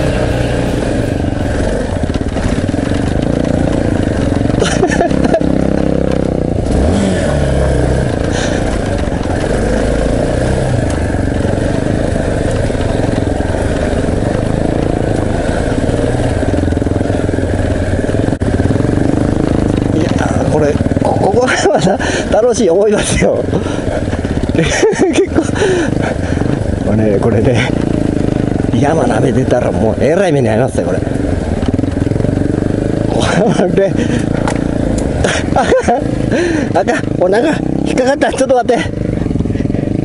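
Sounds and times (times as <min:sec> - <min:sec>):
off-road motorcycle engine revving: 0:00.0 - 0:40.0.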